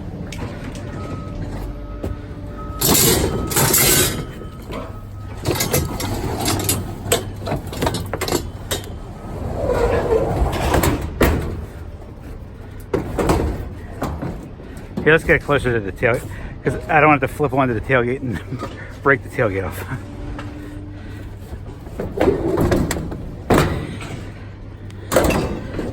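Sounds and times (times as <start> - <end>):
engine hum: 0.0 - 25.9
scrap metal scraping and banging: 0.0 - 25.9.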